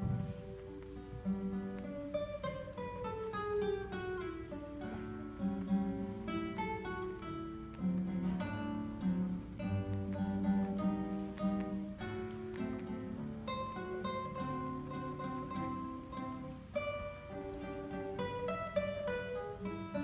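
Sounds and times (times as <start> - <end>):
classical guitar solo: 0.0 - 20.0.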